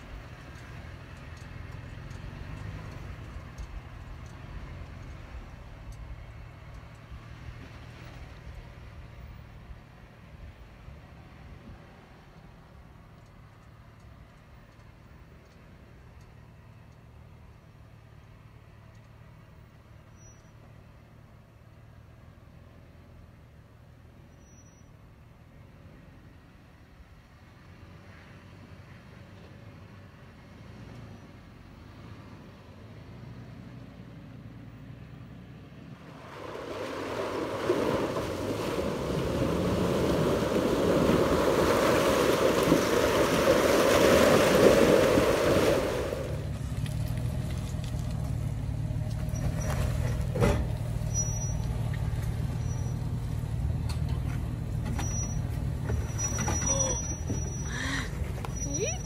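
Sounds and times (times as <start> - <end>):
engine running low rumble: 0.0 - 59.0.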